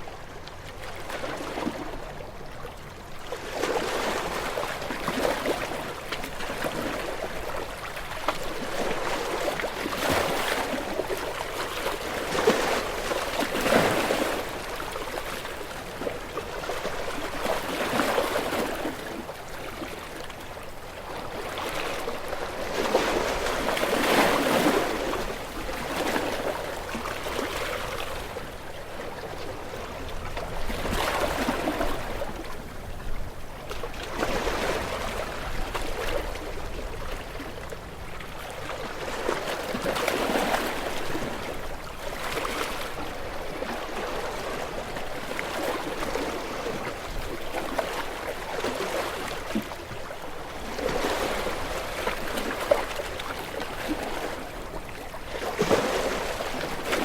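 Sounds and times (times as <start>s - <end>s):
gentle ocean waves on shore: 0.0s - 57.0s.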